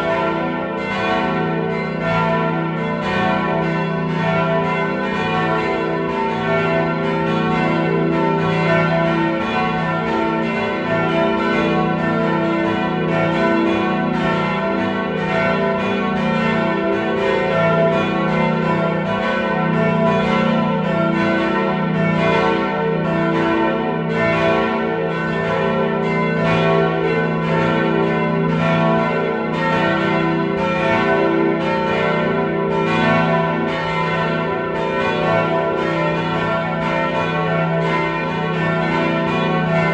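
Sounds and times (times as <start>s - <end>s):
church bells ringing: 0.0s - 39.9s
hum of big bells: 0.0s - 39.9s.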